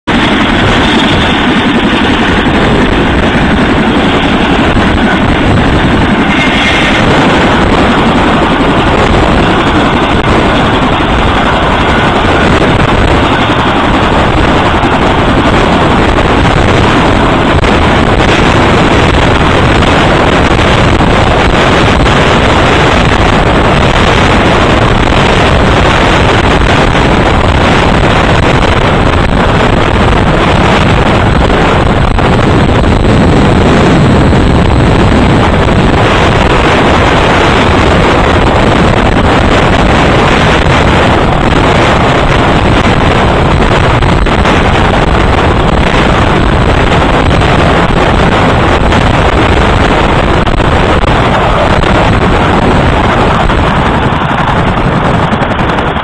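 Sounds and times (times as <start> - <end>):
helicopter rotor and turbine noise: 0.0 - 56.0
wind buffeting microphone: 0.0 - 56.0.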